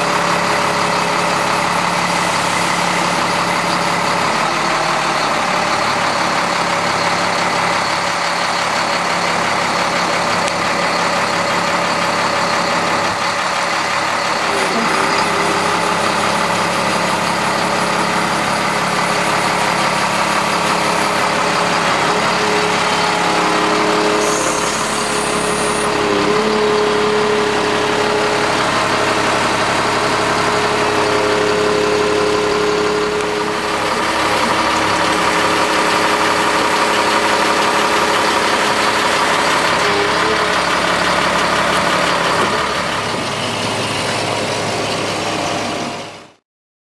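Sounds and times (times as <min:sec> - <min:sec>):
truck diesel engine idling: 0:00.0 - 0:46.4.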